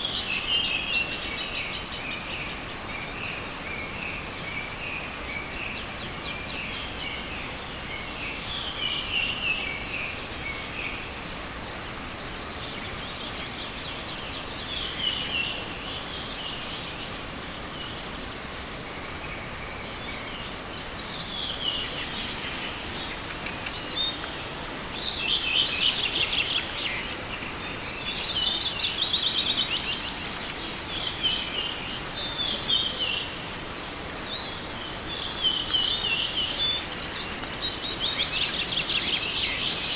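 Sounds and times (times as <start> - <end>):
river rushing hiss: 0.0 - 39.9
songbirds singing: 0.0 - 39.9.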